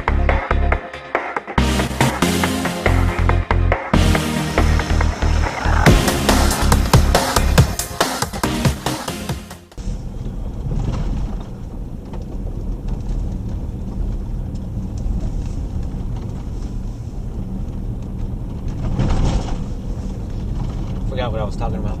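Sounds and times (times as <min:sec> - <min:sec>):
engine and tyres rumbling: 0:00.0 - 0:22.0.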